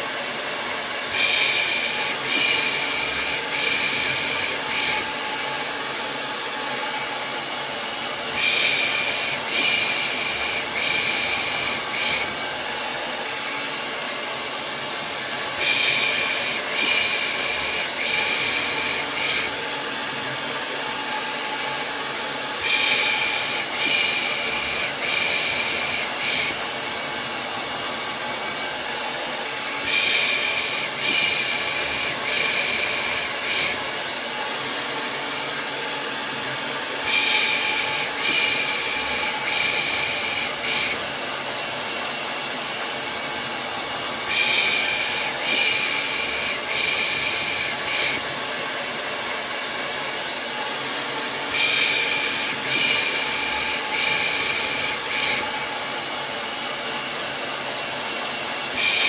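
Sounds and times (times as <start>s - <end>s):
hair dryer white noise: 0.0s - 59.0s.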